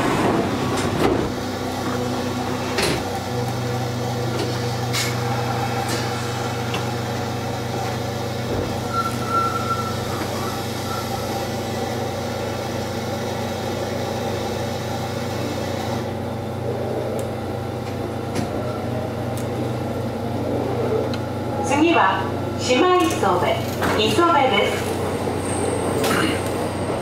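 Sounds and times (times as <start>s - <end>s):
electric train hum: 0.0s - 27.0s.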